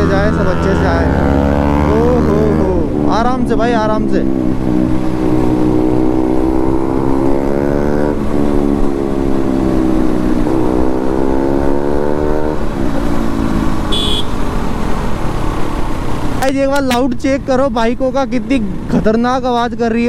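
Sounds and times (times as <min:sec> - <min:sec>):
motorcycle engine accelerating: 0:00.0 - 0:16.3.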